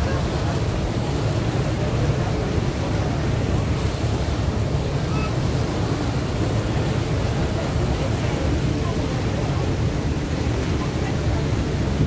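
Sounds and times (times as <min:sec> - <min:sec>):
water rushing along hull: 0:00.0 - 0:12.0
wind on microphone: 0:00.0 - 0:12.0.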